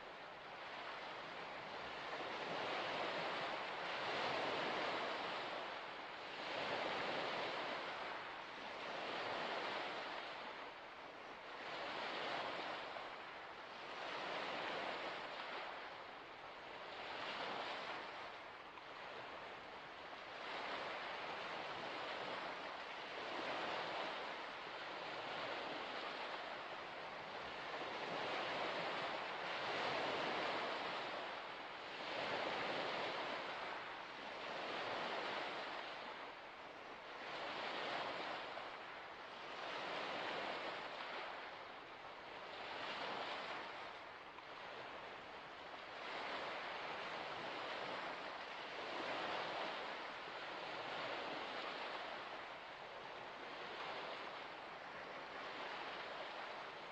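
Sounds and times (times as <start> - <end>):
small waves washing onto shore: 0.0 - 56.9.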